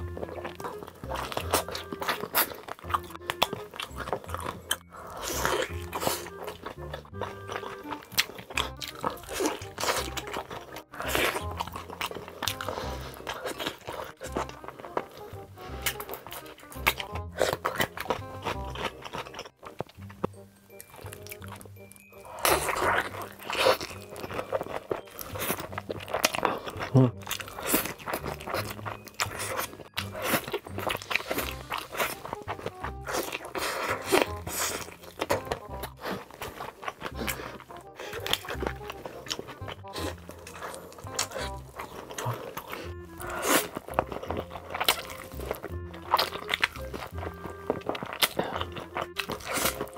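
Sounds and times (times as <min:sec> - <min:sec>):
background music: 0:00.0 - 0:49.9
biting and chewing food: 0:00.0 - 0:49.9.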